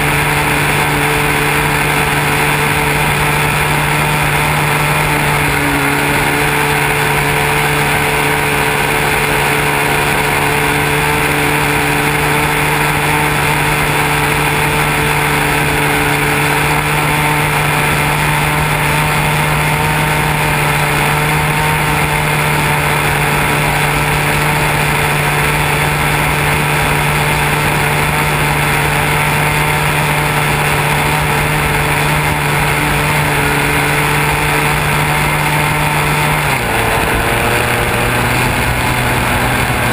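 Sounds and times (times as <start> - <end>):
model airplane motor drone: 0.0 - 39.9.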